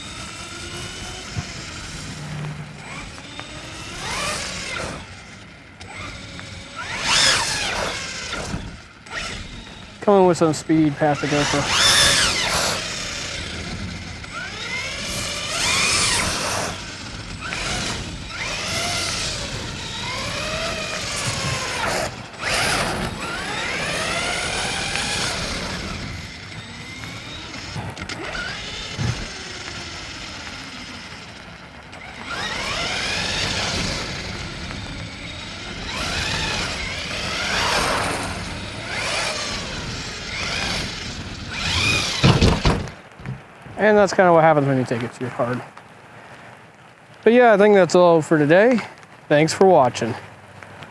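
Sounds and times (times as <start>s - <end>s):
electric motor whining: 0.0s - 45.6s
tyres hissing on wet pavement: 6.3s - 50.9s.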